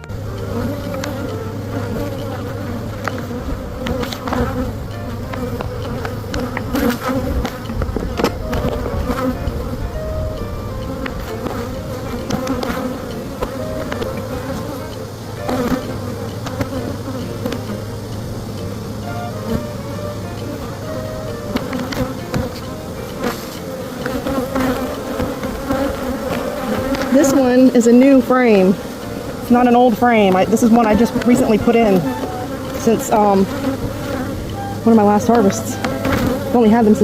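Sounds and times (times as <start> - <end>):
bees buzzing: 0.0 - 37.0.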